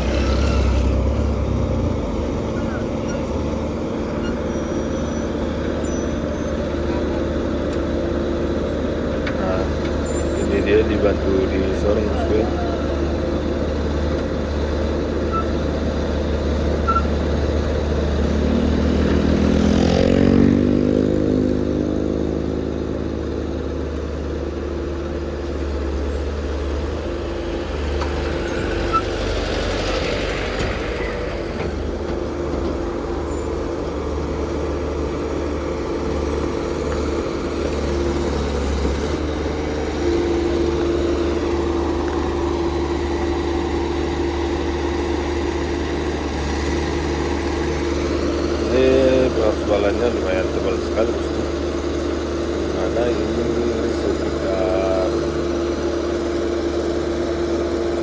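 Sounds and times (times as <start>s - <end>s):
diesel engines running: 0.0s - 58.0s
engine revving: 0.0s - 58.0s.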